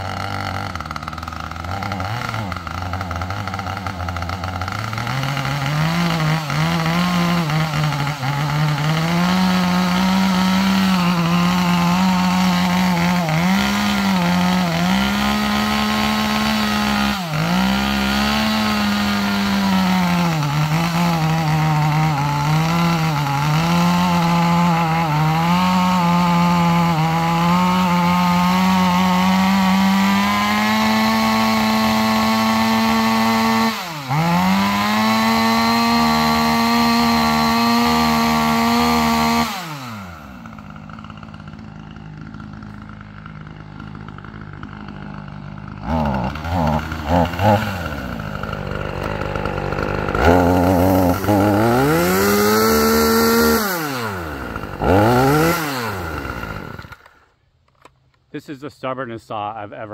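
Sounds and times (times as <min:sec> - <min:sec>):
chainsaw cutting wood: 0:00.0 - 0:58.3.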